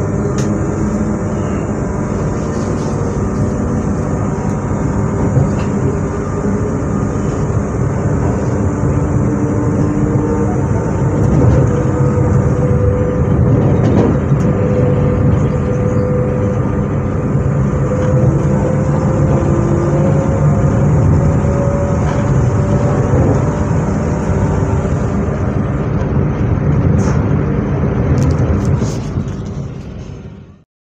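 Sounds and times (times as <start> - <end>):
traction motor whine: 0.0 - 30.5
electric train rumble: 0.0 - 30.6.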